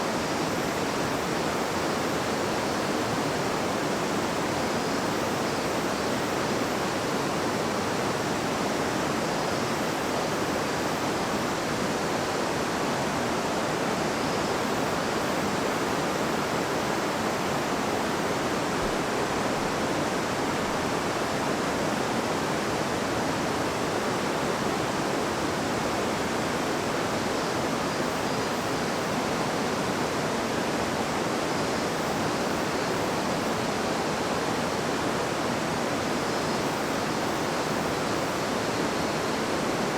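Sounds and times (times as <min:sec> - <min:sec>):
river water babbling and rushing: 0:00.0 - 0:39.9.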